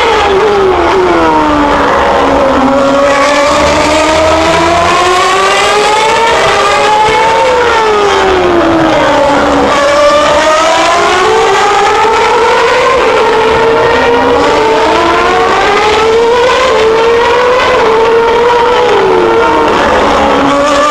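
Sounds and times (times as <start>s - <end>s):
racing car engines at high revs: 0.0s - 20.9s.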